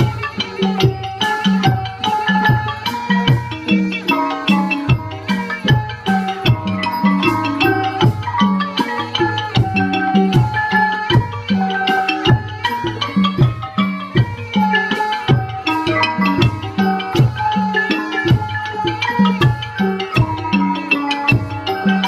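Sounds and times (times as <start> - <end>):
pitched drum beat: 0.0 - 22.0
struck ringing melody notes: 0.0 - 22.0.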